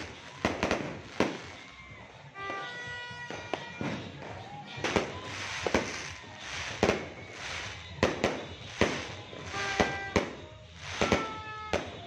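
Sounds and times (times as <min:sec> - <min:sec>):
fireworks bangs: 0:00.0 - 0:12.0
fireworks crackle and hiss: 0:00.0 - 0:12.0.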